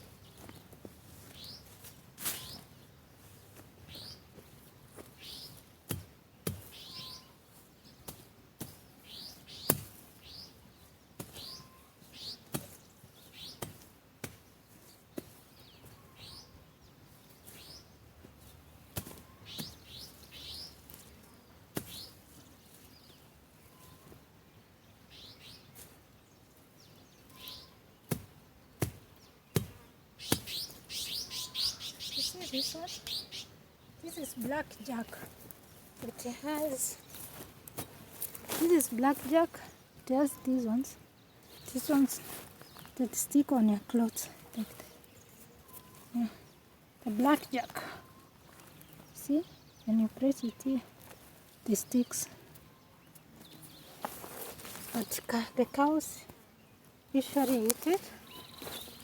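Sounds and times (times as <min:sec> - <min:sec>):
birds chirping: 0:00.0 - 0:05.7, 0:06.4 - 0:13.7, 0:14.4 - 0:59.0.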